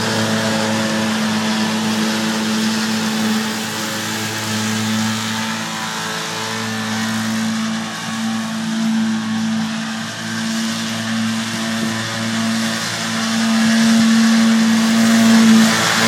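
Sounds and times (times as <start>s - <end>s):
mower hissing: 0.0s - 16.0s
tractor engine droning: 0.0s - 16.0s.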